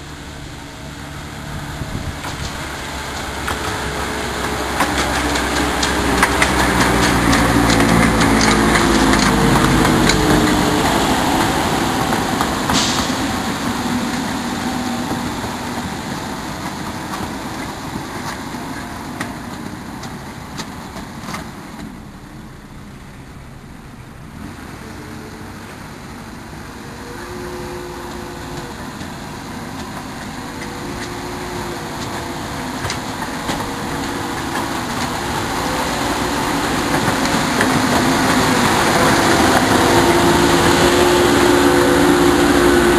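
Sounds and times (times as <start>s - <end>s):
diesel locomotive engine running: 0.0s - 42.9s.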